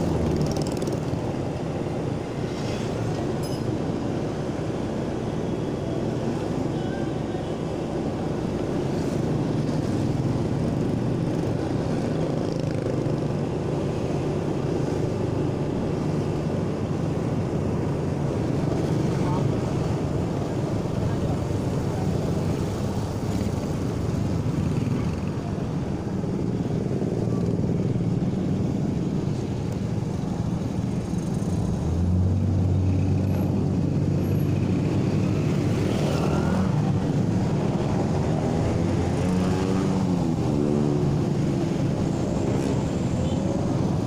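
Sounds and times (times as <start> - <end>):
road noise: 0.0 - 44.0.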